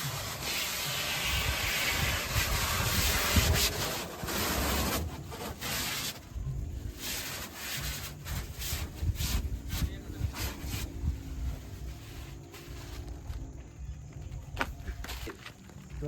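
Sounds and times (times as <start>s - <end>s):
plastic film being peeled off: 0.0s - 13.2s.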